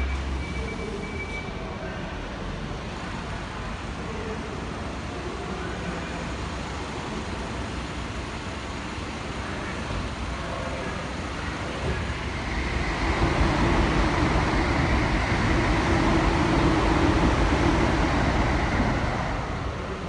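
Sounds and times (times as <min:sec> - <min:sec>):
bus engine driving past: 0:00.0 - 0:20.0.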